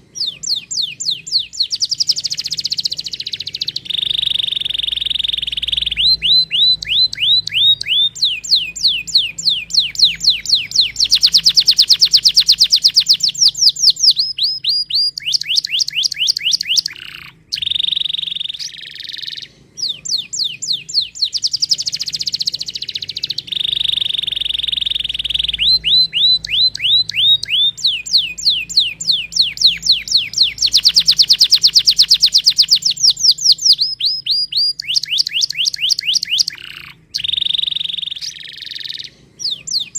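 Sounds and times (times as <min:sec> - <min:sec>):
canary trilling: 0:00.0 - 0:39.9
canary held whistle: 0:00.2 - 0:39.9.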